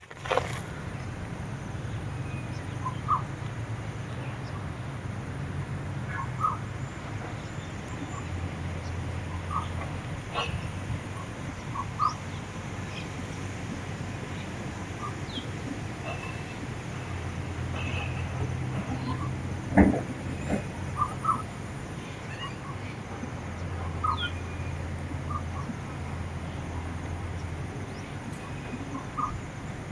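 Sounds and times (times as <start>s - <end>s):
birds chirping: 0.4s - 29.9s.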